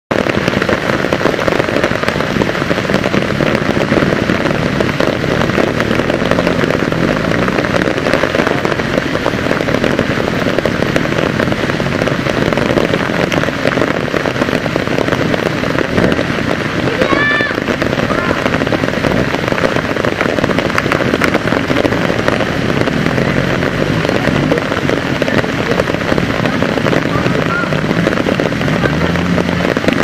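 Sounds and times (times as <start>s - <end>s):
heavy rain on foliage: 0.1s - 30.0s.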